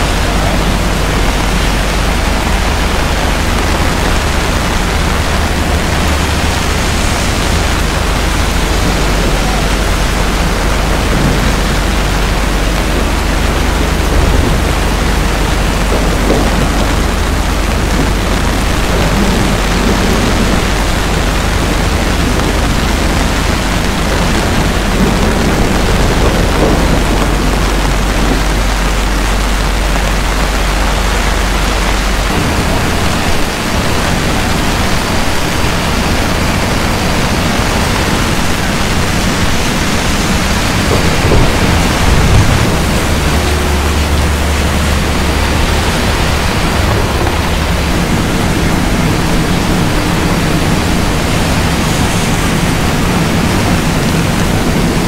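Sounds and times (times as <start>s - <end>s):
heavy rain on pavement: 0.0s - 55.0s
low rumble: 0.0s - 55.0s.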